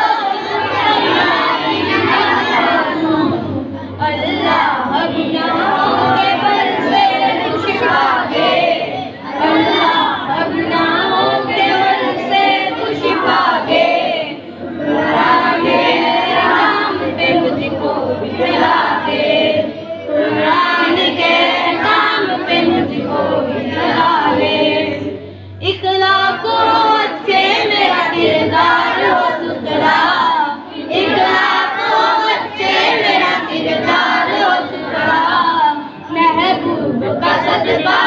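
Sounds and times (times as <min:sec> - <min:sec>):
boy singing into a microphone: 0:00.0 - 0:38.0
children singing a prayer: 0:00.0 - 0:38.0.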